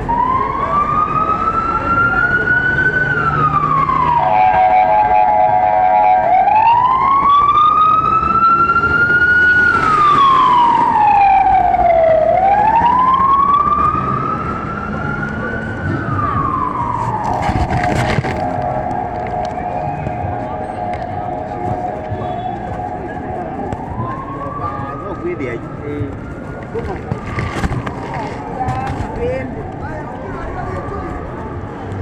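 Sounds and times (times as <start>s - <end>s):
fire engine siren wailing: 0.0s - 32.0s.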